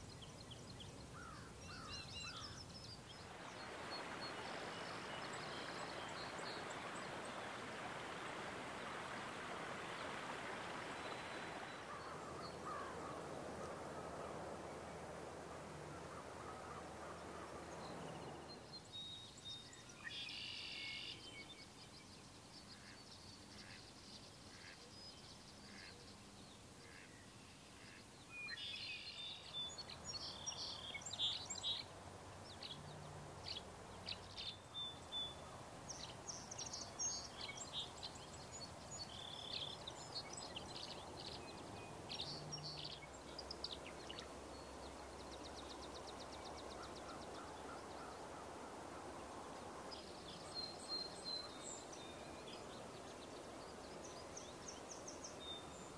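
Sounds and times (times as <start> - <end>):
small birds chirping: 0.0 - 48.3
outdoor background hiss: 0.0 - 55.9.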